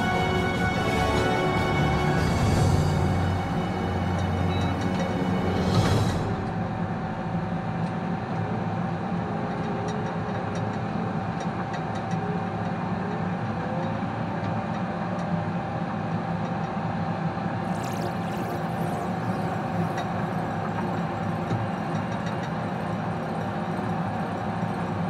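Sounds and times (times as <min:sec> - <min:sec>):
constant whine: 0:00.0 - 0:15.6, 0:17.4 - 0:25.0.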